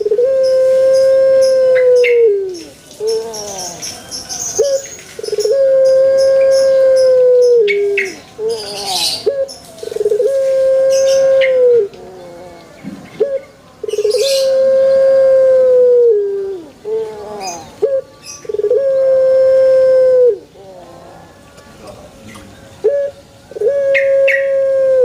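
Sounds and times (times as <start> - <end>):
dove cooing: 0.0 - 21.7, 22.3 - 25.0.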